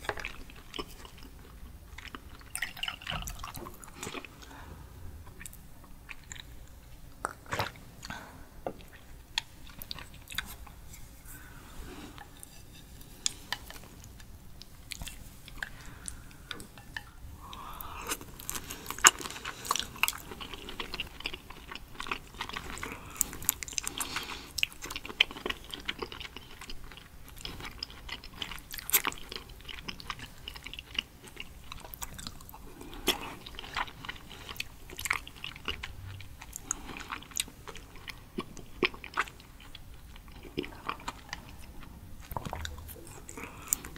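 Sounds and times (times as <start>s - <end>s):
wet chewing sounds: 0.0s - 4.7s, 5.3s - 43.9s.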